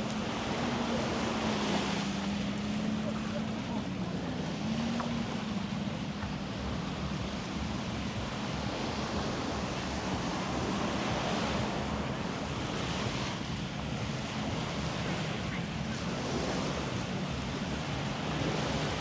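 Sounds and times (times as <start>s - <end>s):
waves washing onto beach: 0.0s - 19.0s
wind on microphone: 0.0s - 19.0s.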